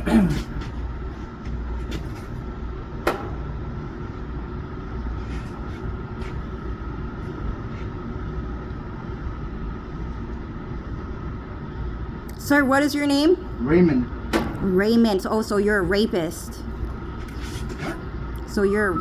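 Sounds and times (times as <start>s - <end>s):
high steady whine: 0.0s - 19.0s
machine hum: 0.0s - 19.0s.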